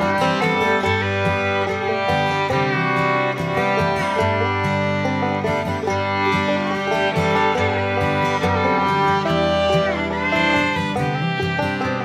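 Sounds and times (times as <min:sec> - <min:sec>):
upbeat bluegrass music with fiddle: 0:00.0 - 0:12.0.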